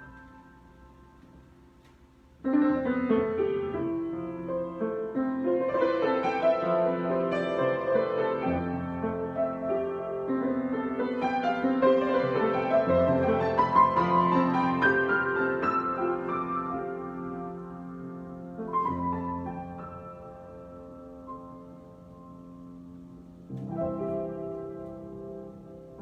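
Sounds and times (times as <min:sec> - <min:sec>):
solo piano chords and melody: 0:00.0 - 0:26.0.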